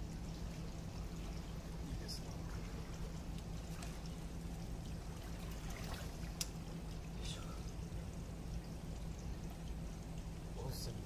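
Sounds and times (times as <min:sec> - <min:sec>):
water flowing and trickling: 0:00.0 - 0:11.0.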